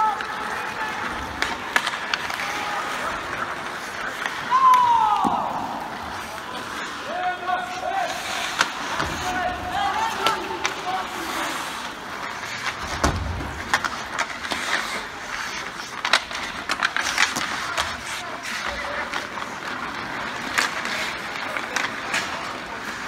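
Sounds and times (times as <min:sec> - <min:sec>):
hockey sticks clacking: 0:00.0 - 0:23.0
skate blades scraping ice: 0:00.0 - 0:23.0.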